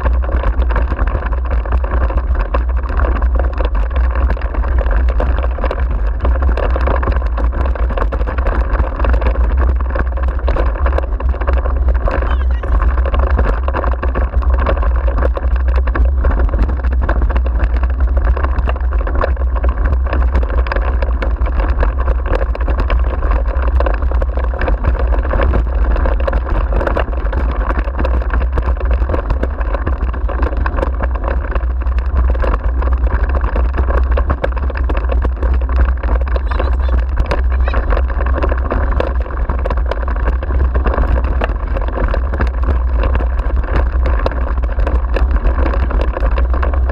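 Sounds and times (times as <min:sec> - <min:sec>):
wheels rattling on dirt track: 0:00.0 - 0:46.9
wind buffeting microphone: 0:00.0 - 0:46.9.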